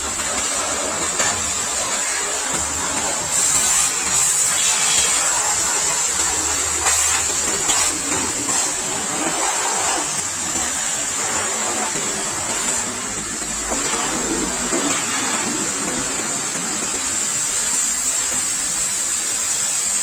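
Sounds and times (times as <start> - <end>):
pressure washer jet hissing: 0.0 - 20.0
washer pump running: 0.0 - 20.0.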